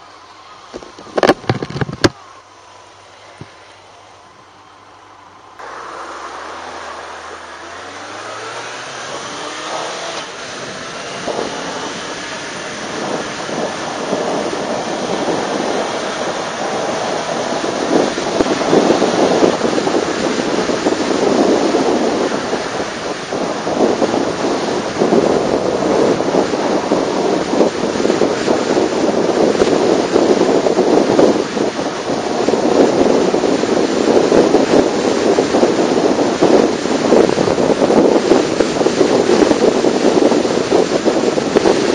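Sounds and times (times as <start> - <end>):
wind rush: 0.0 - 41.9
motorcycle accelerating: 5.5 - 41.9.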